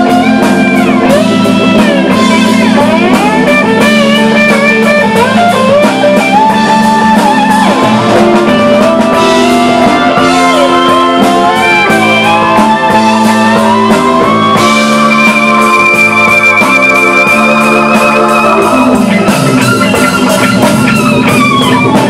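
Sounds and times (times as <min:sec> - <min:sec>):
drums: 0:00.0 - 0:22.0
electric guitar solo: 0:00.0 - 0:22.0.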